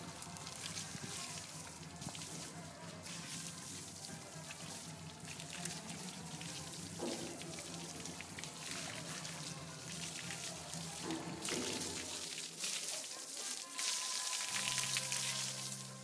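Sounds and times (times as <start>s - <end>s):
water spraying and splattering: 0.0s - 16.0s.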